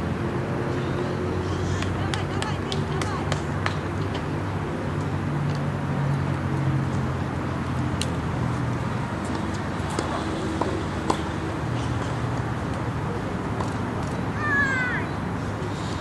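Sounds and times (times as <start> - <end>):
road traffic hum: 0.0 - 16.0.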